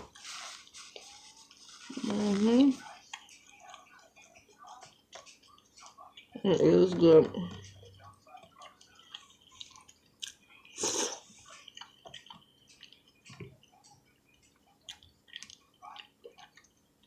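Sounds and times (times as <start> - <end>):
person chewing with wet mouth sounds: 0.0 - 17.0.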